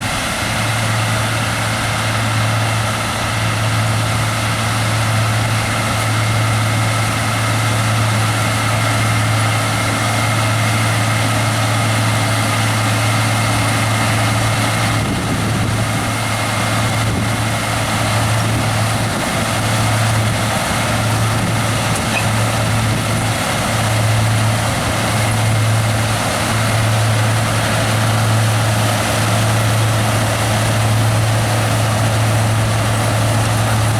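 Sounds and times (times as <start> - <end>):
machinery whine: 0.0 - 33.9
tractor diesel engine hum: 0.0 - 33.9.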